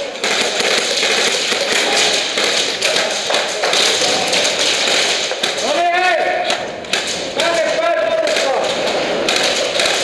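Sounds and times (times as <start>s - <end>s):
airsoft shots: 0.0s - 10.0s
pellets striking: 0.0s - 10.0s.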